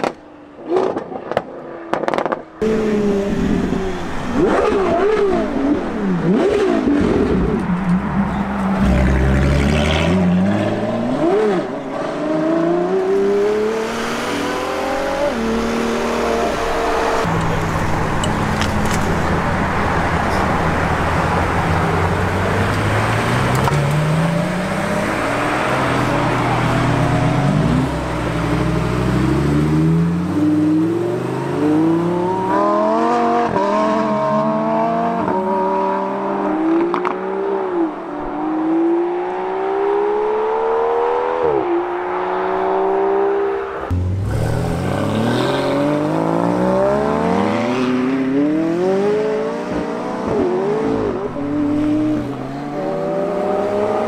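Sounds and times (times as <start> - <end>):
supercar engines accelerating: 2.0 - 54.0.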